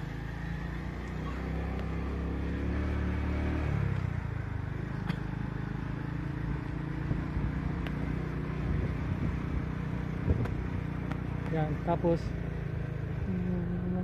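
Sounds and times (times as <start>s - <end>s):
car engine running: 0.0s - 14.0s
tyre and road noise: 0.0s - 14.0s.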